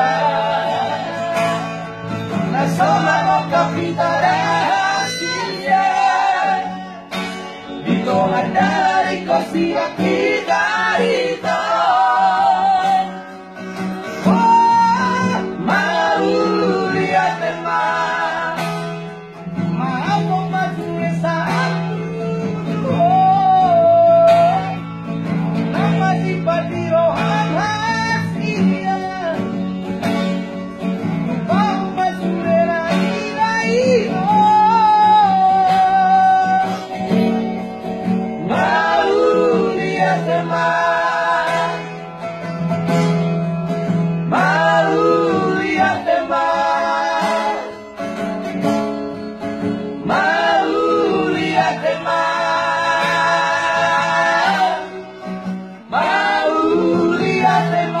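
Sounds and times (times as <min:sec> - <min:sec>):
man singing with vibrato: 0:00.0 - 0:24.9, 0:25.7 - 0:29.8, 0:31.2 - 0:37.6, 0:38.4 - 0:42.3, 0:44.3 - 0:48.1, 0:49.9 - 0:58.0
acoustic guitar: 0:00.0 - 0:58.0.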